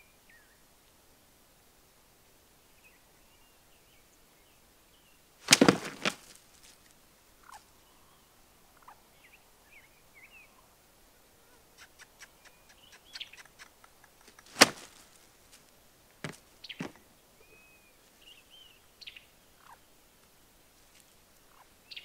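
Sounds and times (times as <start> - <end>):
faint songbird chirps: 0.0 - 0.7, 2.6 - 5.6, 6.2 - 15.4, 16.4 - 22.0.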